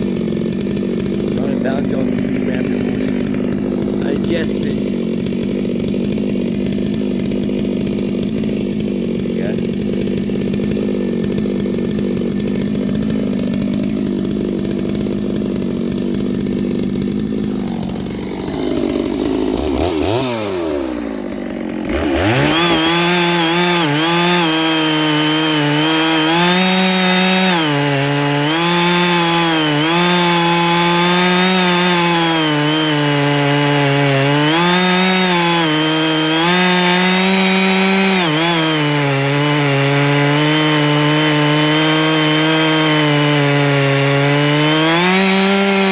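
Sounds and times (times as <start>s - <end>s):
chainsaw running loud: 0.0s - 45.9s.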